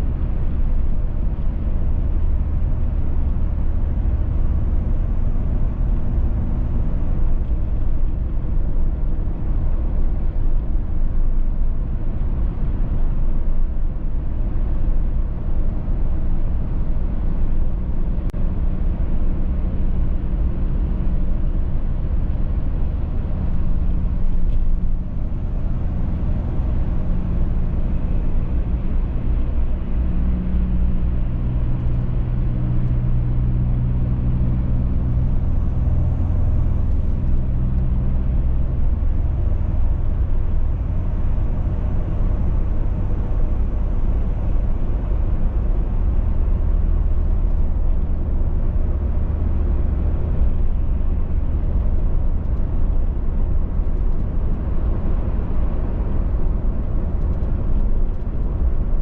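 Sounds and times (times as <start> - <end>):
low engine hum: 0.0 - 59.0
road and tyre noise: 0.0 - 59.0.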